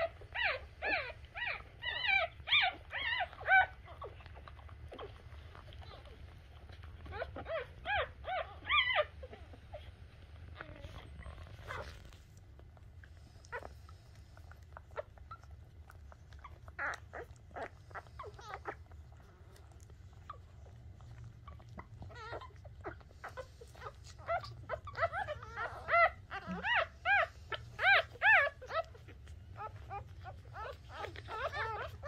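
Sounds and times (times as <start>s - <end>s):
puppies squealing: 0.0s - 12.2s, 14.4s - 32.0s
puppies squeaking and whimpering: 0.0s - 32.0s.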